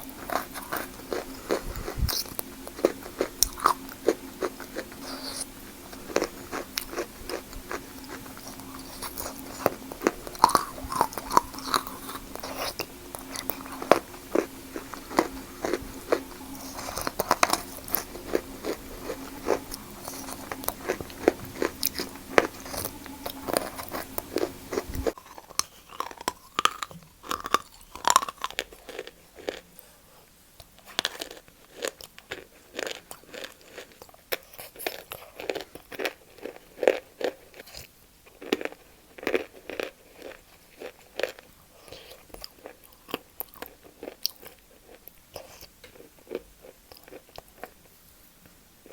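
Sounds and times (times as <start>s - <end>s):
crunching and chewing chalk: 0.0s - 29.9s, 30.6s - 48.0s
low background hum: 0.0s - 48.9s.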